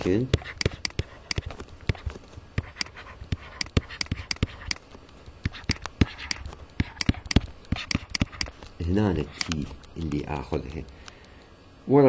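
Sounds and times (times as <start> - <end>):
stylus tapping on tablet screen: 0.0 - 10.1.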